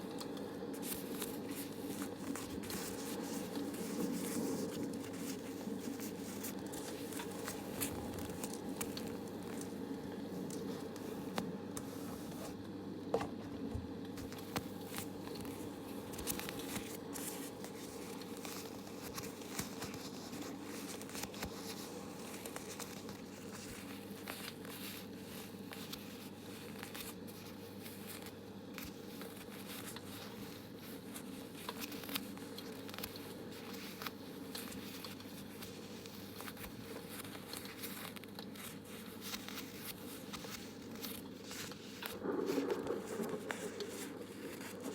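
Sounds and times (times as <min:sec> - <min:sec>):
crinkling and crackling: 0:00.0 - 0:44.9
low background hum: 0:00.0 - 0:44.9.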